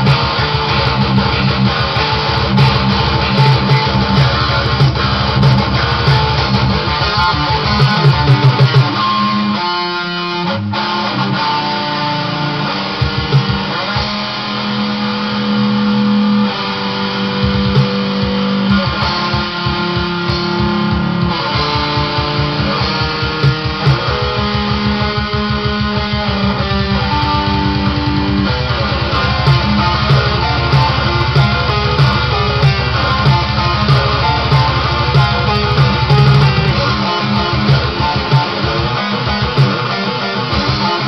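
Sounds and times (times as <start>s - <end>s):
electric guitar metal riff: 0.0s - 41.0s.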